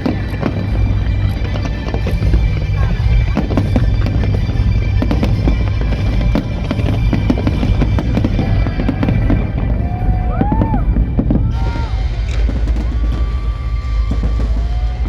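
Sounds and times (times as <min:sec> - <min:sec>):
deep rumble: 0:00.0 - 0:15.0
fireworks cracks and bangs: 0:00.0 - 0:15.0
loud music: 0:00.0 - 0:15.0.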